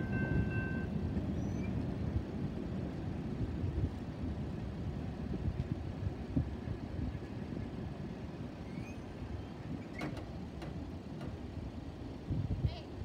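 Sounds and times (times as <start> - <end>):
freight train rumble: 0.0 - 13.0
wind noise on microphone: 0.0 - 13.0.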